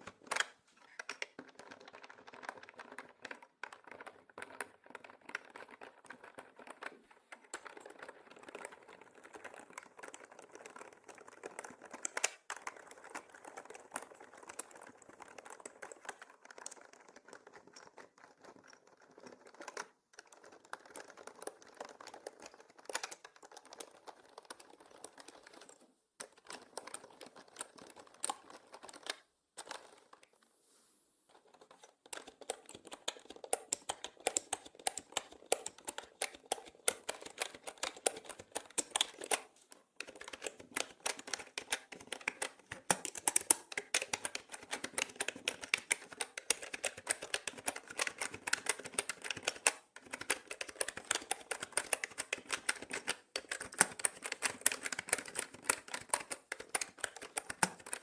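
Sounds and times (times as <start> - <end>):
mechanical keyboard typing: 0.0 - 30.3, 31.3 - 58.0.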